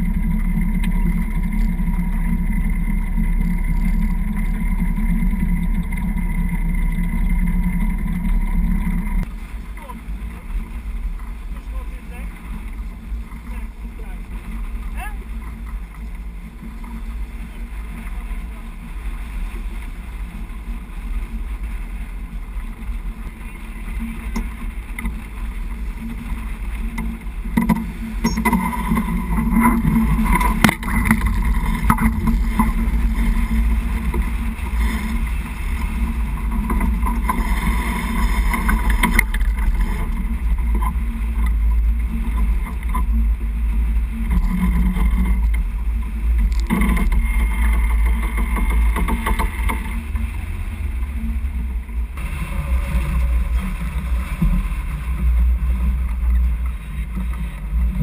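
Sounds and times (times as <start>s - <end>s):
water rushing along hull: 0.0s - 58.0s
wind buffeting microphone: 0.0s - 58.0s.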